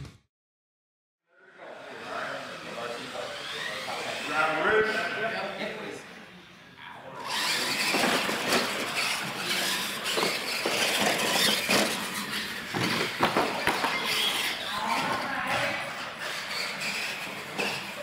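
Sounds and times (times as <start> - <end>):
toy trucks whirring: 1.8 - 6.0, 7.1 - 18.0.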